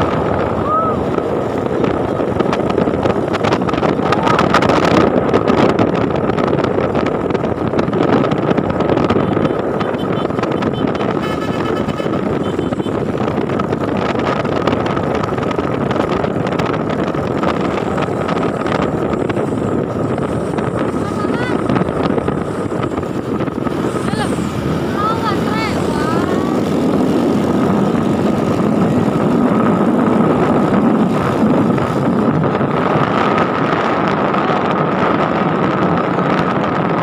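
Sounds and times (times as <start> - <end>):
vehicle engine and road noise: 0.0 - 37.0
wind buffeting microphone: 0.0 - 37.0.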